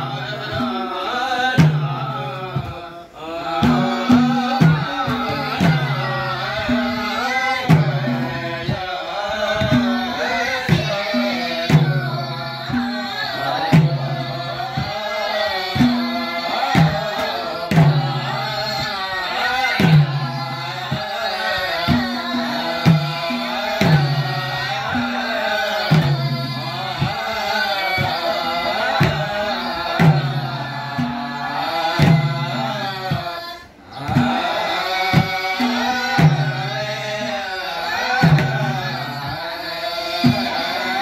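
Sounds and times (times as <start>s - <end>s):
hand drums in steady rhythm: 0.0s - 41.0s
men and women singing: 0.0s - 41.0s.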